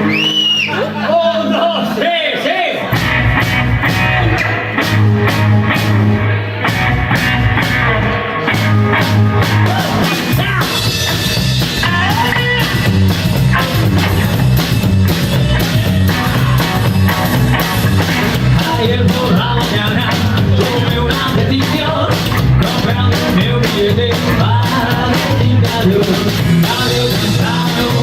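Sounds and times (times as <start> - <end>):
rockabilly band playing: 0.0 - 2.0, 2.8 - 28.0
drum kit beat: 2.8 - 28.0.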